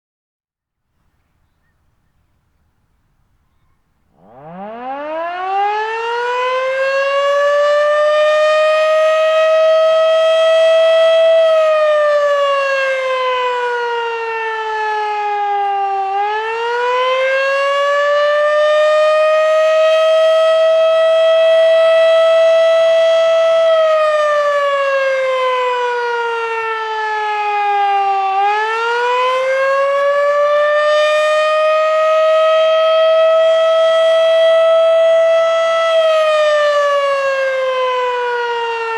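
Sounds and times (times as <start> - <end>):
warning siren wailing: 4.0 - 38.9.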